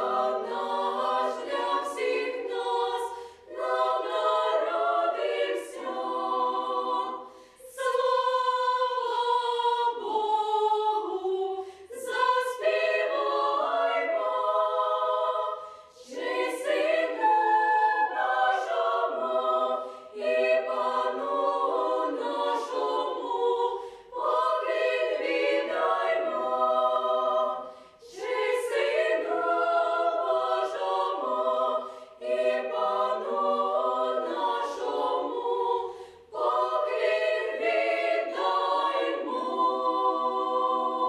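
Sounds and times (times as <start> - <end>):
female choir singing a cappella: 0.0 - 41.0.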